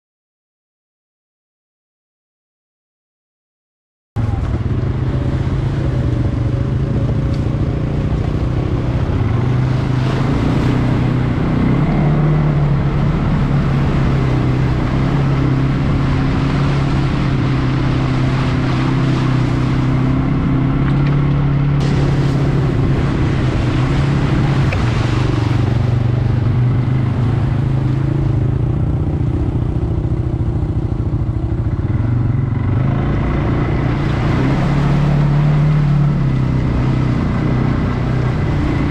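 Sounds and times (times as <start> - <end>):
atv engine running: 4.2 - 38.9.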